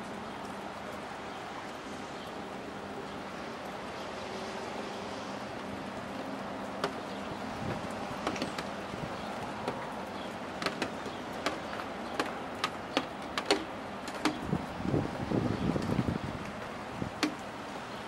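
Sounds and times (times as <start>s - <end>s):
large raindrops tapping: 0.0s - 18.0s
steady rain falling: 0.0s - 18.0s.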